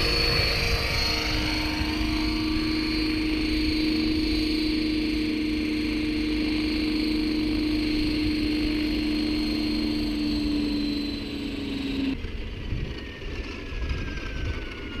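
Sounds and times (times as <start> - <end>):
helicopter rotor and motor hum: 0.0 - 15.0
motor whine spooling down: 0.0 - 15.0.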